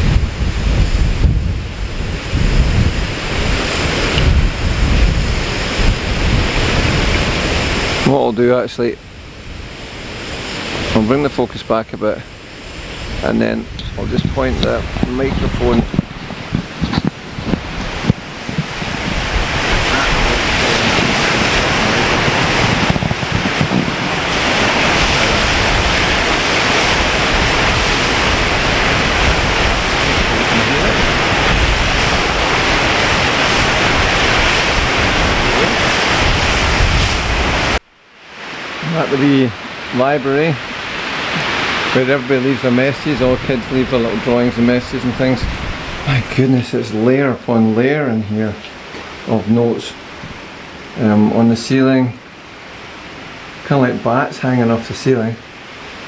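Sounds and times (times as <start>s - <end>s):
wind buffeting microphone: 0.0s - 8.3s, 8.9s - 11.6s, 12.2s - 37.8s, 38.4s - 51.4s
waterfall rushing hiss: 0.0s - 8.4s, 9.1s - 56.0s.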